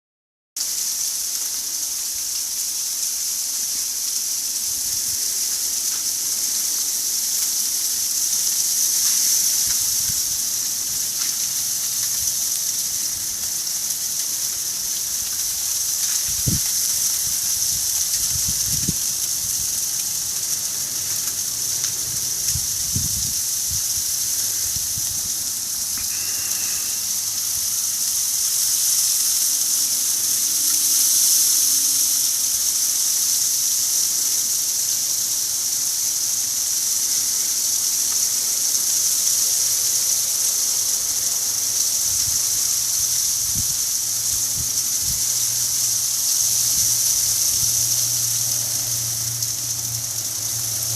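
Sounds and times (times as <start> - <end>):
icy snow hissing: 0.6 - 50.9.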